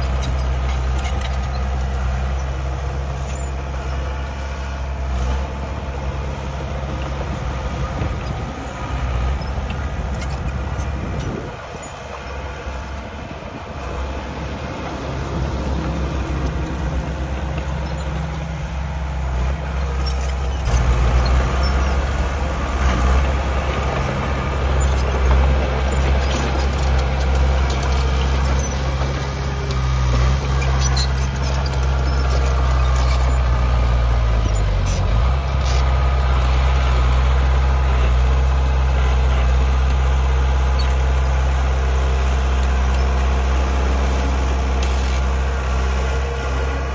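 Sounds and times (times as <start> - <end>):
heavy diesel engine under load: 0.0 - 46.9.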